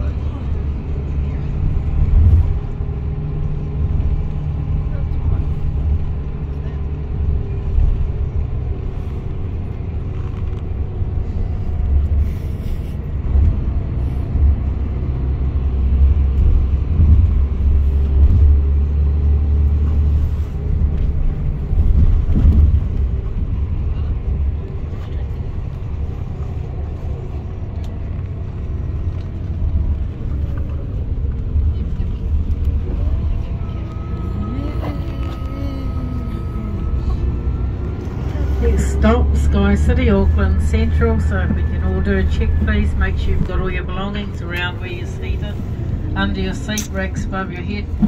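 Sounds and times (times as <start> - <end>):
bus engine and tyres rumbling: 0.0 - 48.0.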